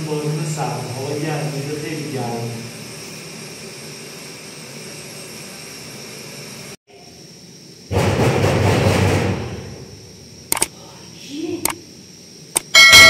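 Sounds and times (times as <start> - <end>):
gas stove burner hissing: 0.0 - 13.0.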